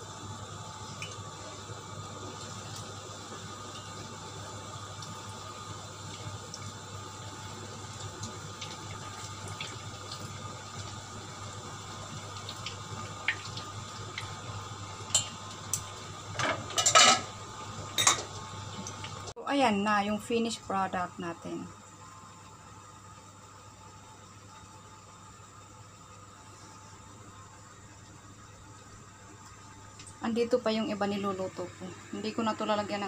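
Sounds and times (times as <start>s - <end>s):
kitchen hum and hiss: 0.0s - 33.0s.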